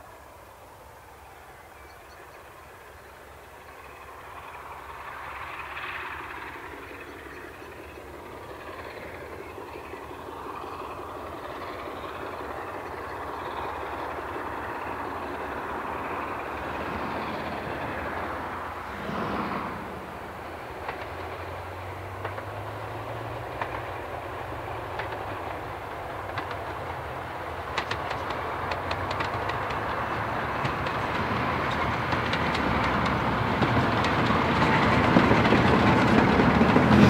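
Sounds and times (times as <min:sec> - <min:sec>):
diesel locomotive engine running: 0:00.0 - 0:37.0
wheels clicking over rail joints: 0:01.8 - 0:37.0.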